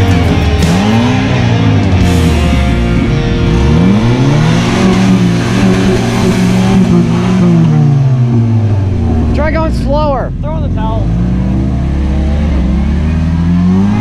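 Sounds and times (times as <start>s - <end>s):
rock music: 0.0s - 13.2s
engine revving under load: 0.0s - 14.0s.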